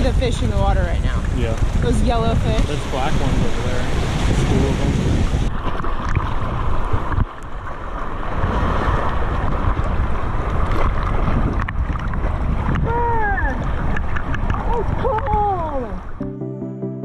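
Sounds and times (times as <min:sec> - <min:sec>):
water sloshing and splashing: 0:00.0 - 0:16.2
wind rumbling on microphone: 0:00.0 - 0:16.2
ocean surf washing over rock: 0:00.1 - 0:15.9.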